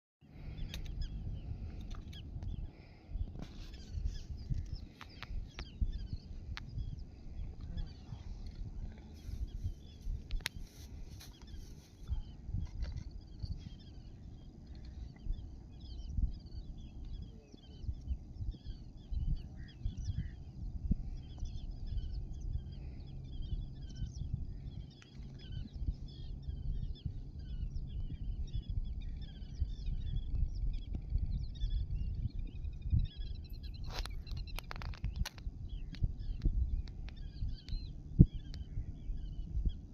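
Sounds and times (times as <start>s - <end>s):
small birds chirping: 0.2s - 39.9s
low rumble: 0.3s - 39.9s.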